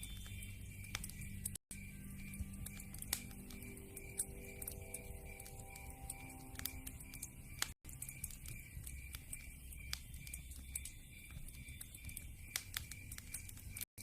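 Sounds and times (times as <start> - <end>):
low rumble of flames: 0.0 - 13.8
wood fire crackling: 0.0 - 13.9.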